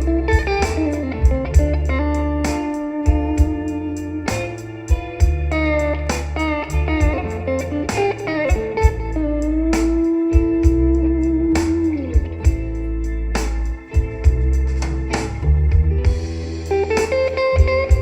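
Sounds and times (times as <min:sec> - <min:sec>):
electric guitar notes: 0:00.0 - 0:18.0
rock music through speaker: 0:00.0 - 0:18.0.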